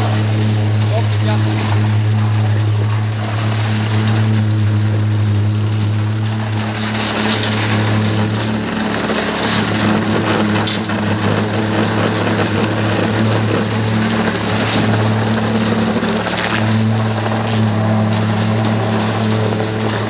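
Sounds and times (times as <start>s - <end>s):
concrete pump engine running: 0.0s - 20.0s.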